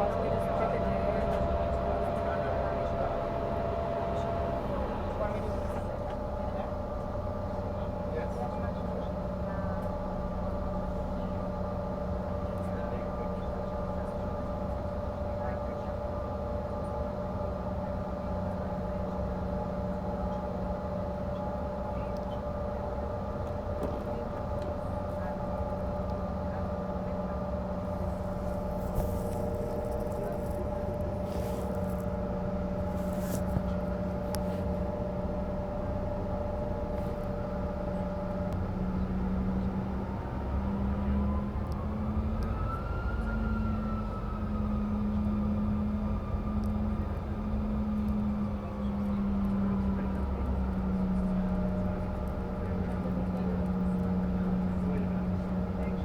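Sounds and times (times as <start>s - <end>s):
jet engines hum and whine: 0.0s - 56.0s.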